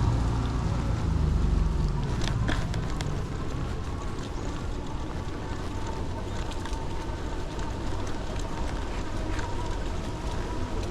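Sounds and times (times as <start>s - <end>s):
wind rumble on microphone: 0.0s - 10.9s
small ticks: 1.8s - 10.9s.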